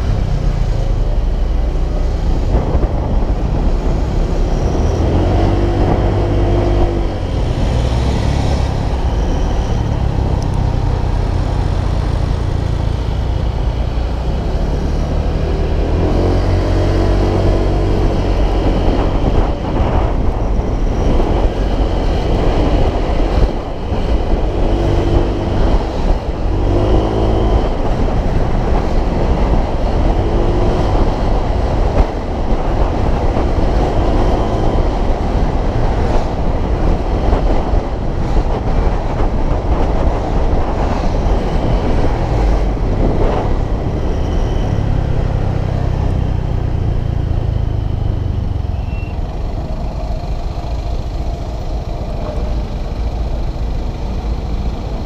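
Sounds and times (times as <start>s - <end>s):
motor scooter engine and road noise: 0.0s - 55.0s
wind rushing over microphone: 0.0s - 55.0s.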